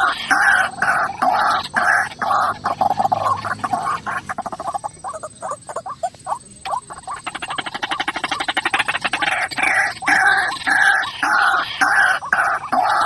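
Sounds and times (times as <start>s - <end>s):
bird calling harshly: 0.0s - 13.0s.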